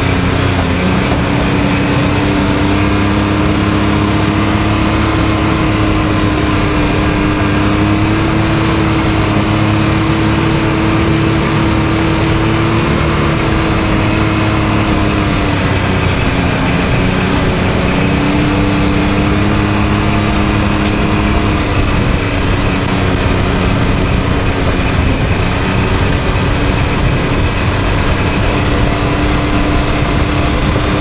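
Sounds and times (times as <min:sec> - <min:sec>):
engine running steadily: 0:00.0 - 0:31.0
rumble over rough ground: 0:00.0 - 0:31.0.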